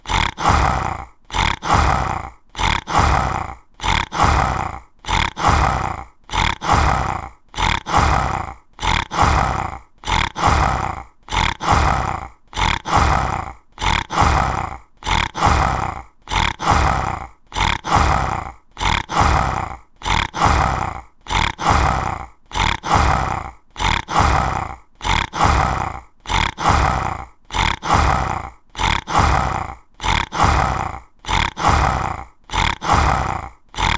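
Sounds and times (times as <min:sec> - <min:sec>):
tiger roaring: 0:00.0 - 0:33.9.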